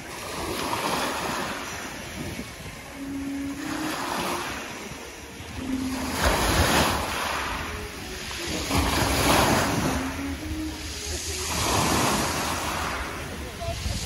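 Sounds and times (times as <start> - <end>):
sea waves washing in: 0.0 - 14.0
wind rumbling on microphone: 0.0 - 14.0.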